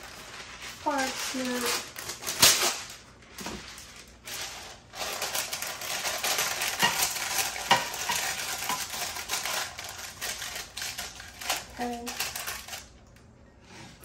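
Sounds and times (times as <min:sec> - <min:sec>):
parchment paper crinkling: 0:00.0 - 0:13.2.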